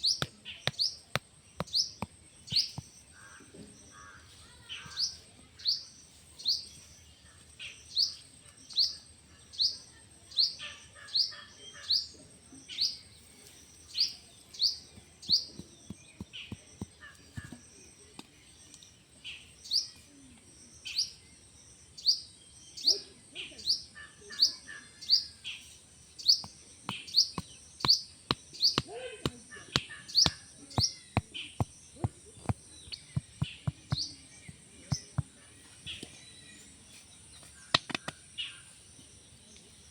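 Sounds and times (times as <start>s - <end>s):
small bird chirping: 0.0s - 38.8s.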